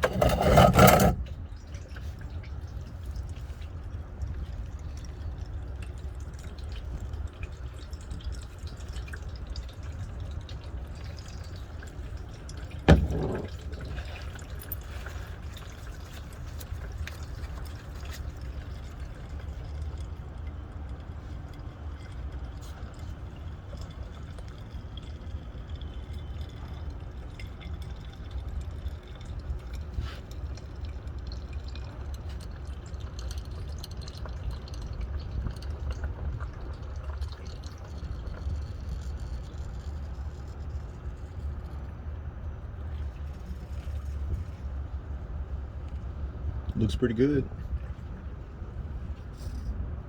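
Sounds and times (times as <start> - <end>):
oil pouring into drain pan: 0.0 - 47.0.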